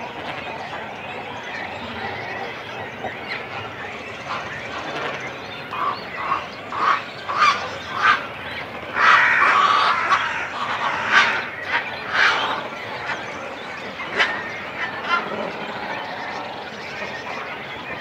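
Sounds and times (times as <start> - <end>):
cormorants calling: 0.0 - 18.0.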